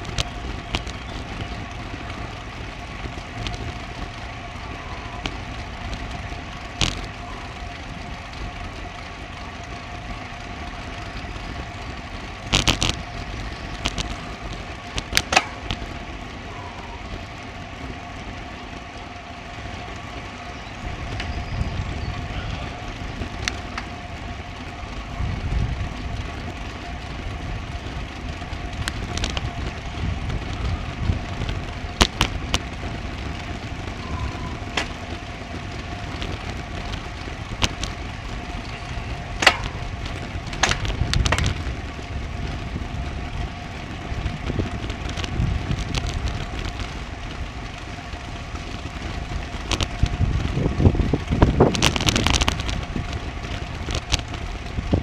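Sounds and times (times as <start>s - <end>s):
bicycle rolling noise: 0.0s - 55.0s
bike clicks and rattles: 0.0s - 55.0s
wind buffeting microphone: 0.0s - 55.0s.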